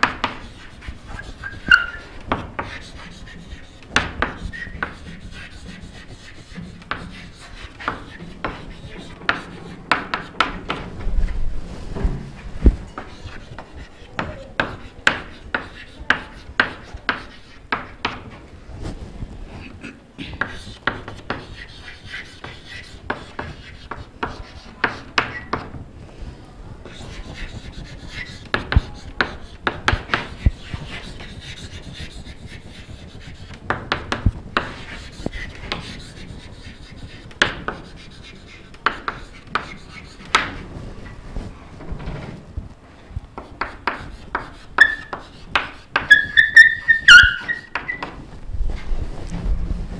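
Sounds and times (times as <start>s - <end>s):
chalk writing on chalkboard: 0.0s - 41.5s, 43.0s - 49.4s.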